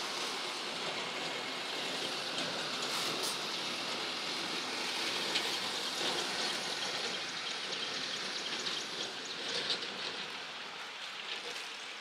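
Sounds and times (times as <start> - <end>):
steady rain patter: 0.0 - 12.0.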